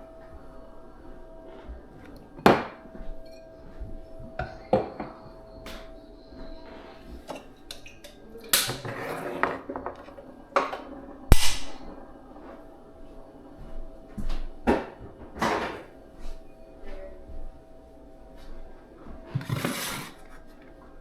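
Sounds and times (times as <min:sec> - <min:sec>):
dishes knocking and clinking: 0:00.0 - 0:12.7, 0:13.6 - 0:17.6, 0:19.0 - 0:20.7.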